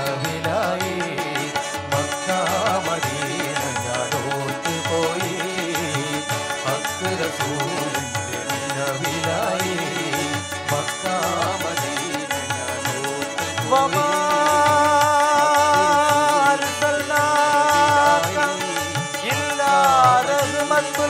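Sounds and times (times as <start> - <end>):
keyboard: 0.0 - 21.0
tabla rhythm: 0.0 - 21.0.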